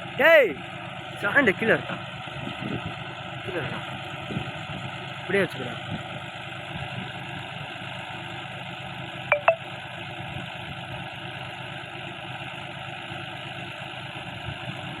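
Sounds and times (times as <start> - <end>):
tractor diesel engine running: 0.0 - 9.3, 9.9 - 15.0.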